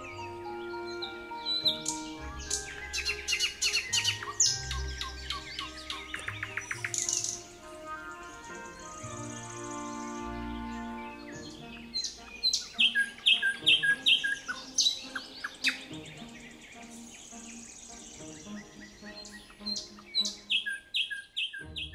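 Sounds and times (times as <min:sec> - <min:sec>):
songbird singing: 0:00.0 - 0:21.9.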